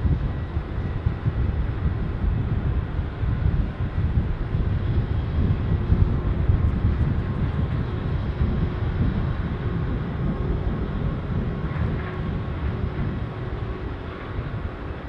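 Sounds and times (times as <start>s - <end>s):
distant jet engines: 0.0s - 15.0s
wind buffeting microphone: 0.0s - 15.0s.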